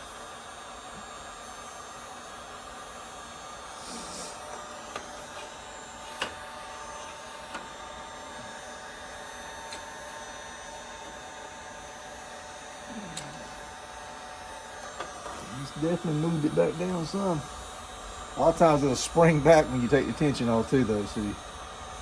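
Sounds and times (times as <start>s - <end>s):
heat gun whirring: 0.0s - 22.0s.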